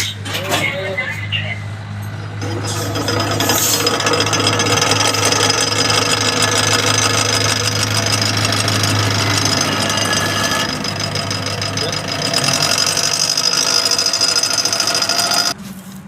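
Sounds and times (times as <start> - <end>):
low motor hum: 1.9 - 15.6
wheel scraping grind: 2.4 - 15.6.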